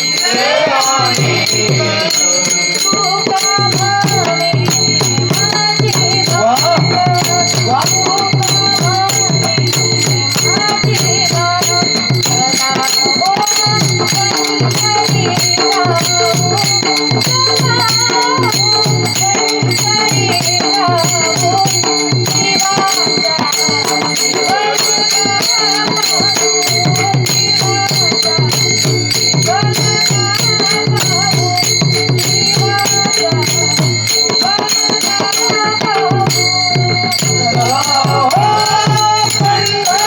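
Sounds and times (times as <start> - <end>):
cymbals ringing: 0.0 - 40.0
drum beat: 0.0 - 40.0
girl singing: 0.0 - 40.0.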